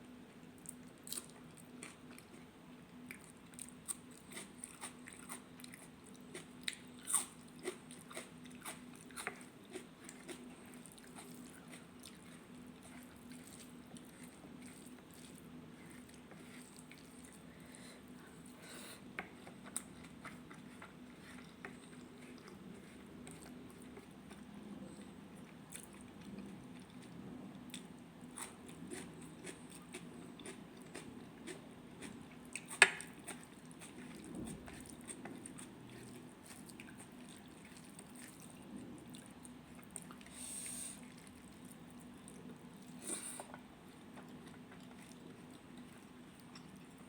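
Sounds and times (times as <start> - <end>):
faint steady hum: 0.0 - 47.0
person chewing: 0.6 - 18.6, 19.2 - 47.0.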